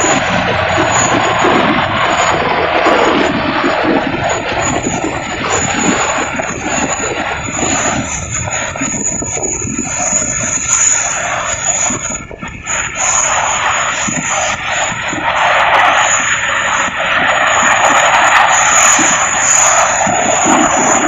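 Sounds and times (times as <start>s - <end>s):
jet engine roar with whine: 0.0s - 21.0s.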